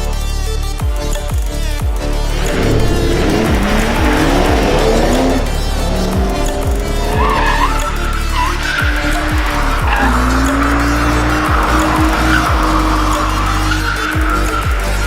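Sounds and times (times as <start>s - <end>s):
background music: 0.0s - 15.0s
car engine running hard: 1.0s - 15.0s
tyres squealing: 1.9s - 15.0s.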